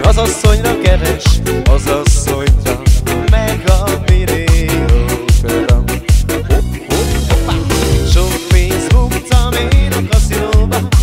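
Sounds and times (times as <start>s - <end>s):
drum-machine beat: 0.0s - 11.0s
wavering keyboard melody: 0.0s - 11.0s.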